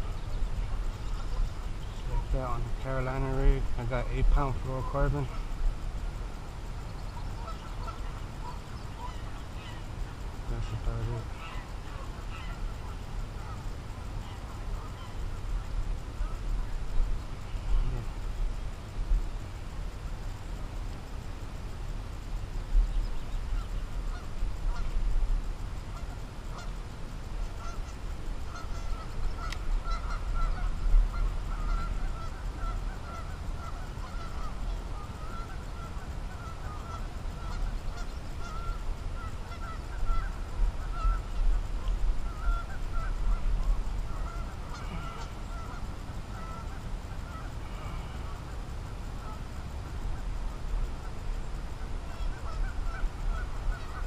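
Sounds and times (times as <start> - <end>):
geese honking: 0.0 - 5.6, 6.7 - 16.8, 23.5 - 25.0, 25.8 - 26.8, 27.4 - 48.5, 49.2 - 51.2, 51.8 - 54.0.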